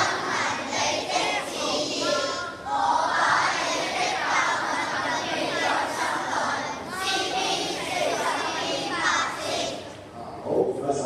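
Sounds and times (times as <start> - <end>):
children's voices in unison: 0.0 - 10.0.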